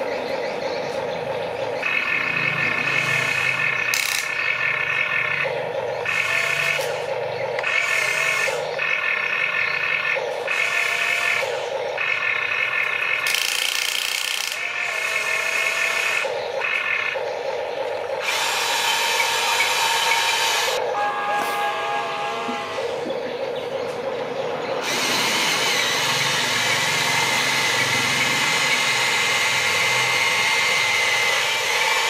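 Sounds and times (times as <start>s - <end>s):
harsh whirr: 0.0s - 32.0s
toy excavator motors whining: 0.0s - 32.0s.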